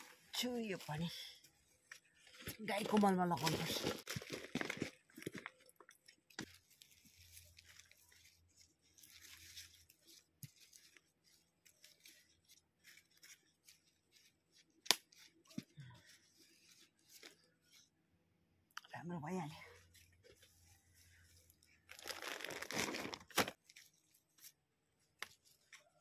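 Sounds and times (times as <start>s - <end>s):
soil and leaves rustling: 0.0s - 17.9s, 19.3s - 26.0s.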